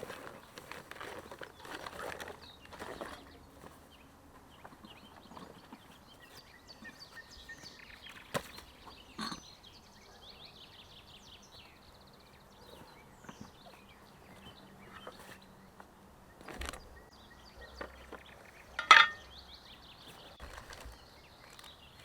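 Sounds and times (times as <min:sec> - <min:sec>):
faint forest background: 0:00.0 - 0:22.0
small birds chirping: 0:00.0 - 0:22.0.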